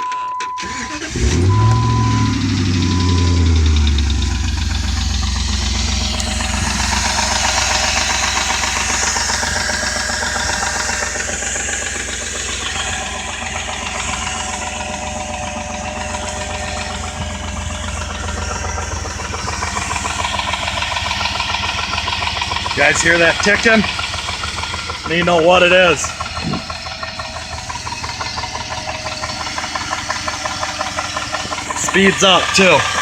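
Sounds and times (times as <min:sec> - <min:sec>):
engine idling with rapid ticking: 0:00.0 - 0:33.0.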